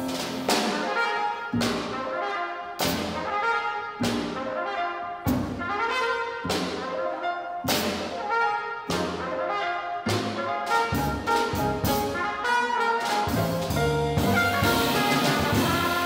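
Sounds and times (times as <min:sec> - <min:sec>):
jazz quartet playing: 0:00.0 - 0:16.0
trumpet melody: 0:00.0 - 0:16.0.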